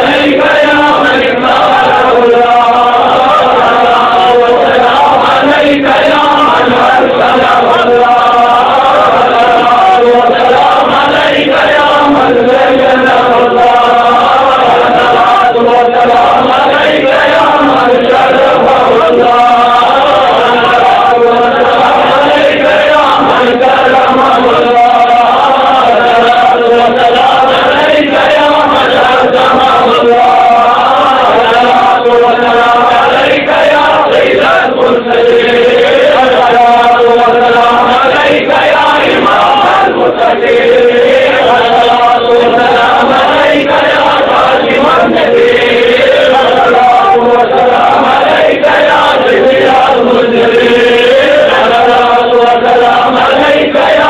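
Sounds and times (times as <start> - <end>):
men chanting: 0.0 - 54.0.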